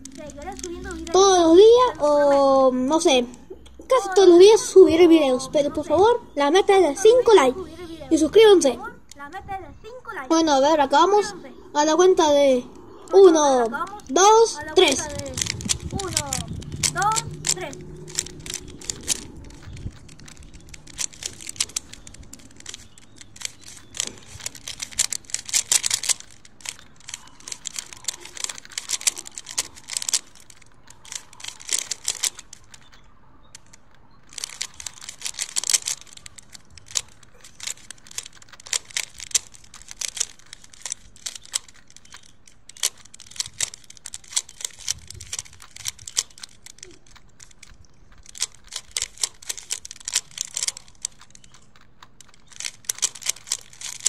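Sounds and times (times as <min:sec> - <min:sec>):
plastic puzzle cube clicking: 0:00.0 - 0:09.4, 0:10.3 - 0:54.0.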